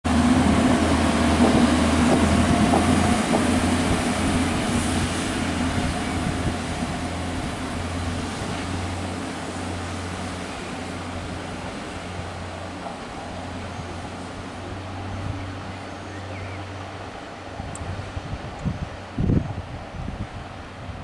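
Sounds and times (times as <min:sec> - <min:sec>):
train diesel engine: 0:00.0 - 0:21.0
train rumbling on rails: 0:00.0 - 0:21.0.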